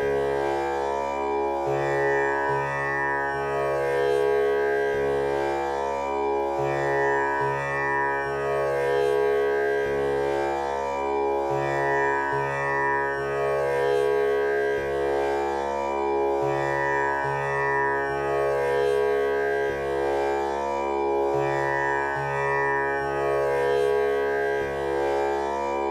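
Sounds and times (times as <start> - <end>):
tanpura drone: 0.0 - 25.9.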